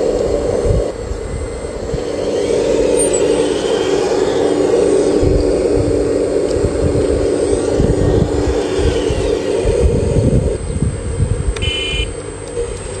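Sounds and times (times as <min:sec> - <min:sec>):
uneven low rumble: 0:00.0 - 0:11.6
hydraulic pump humming: 0:00.0 - 0:13.0.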